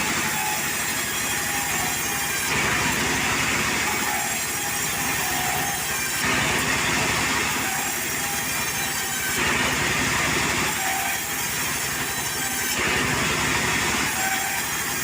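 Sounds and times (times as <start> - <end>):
saw cutting wood: 0.0 - 15.0
sawmill engine drone: 0.0 - 15.0.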